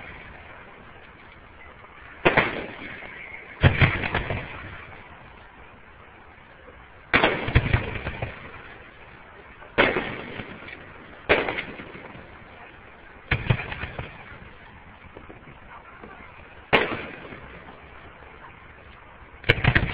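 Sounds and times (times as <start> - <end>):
fireworks booming: 0.0 - 19.9
small fireworks pops: 0.0 - 19.9.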